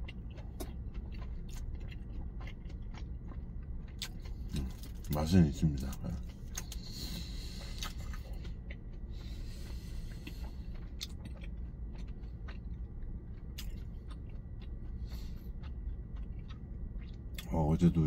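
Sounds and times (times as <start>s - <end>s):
person chewing with wet clicks: 0.0s - 18.0s.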